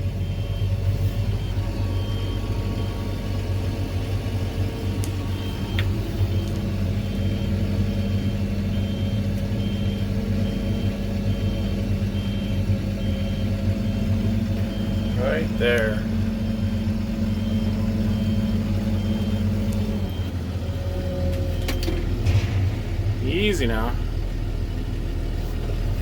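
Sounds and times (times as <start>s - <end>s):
reversing alarm beeping: 0.0s - 24.2s
loader engine running: 0.0s - 26.0s.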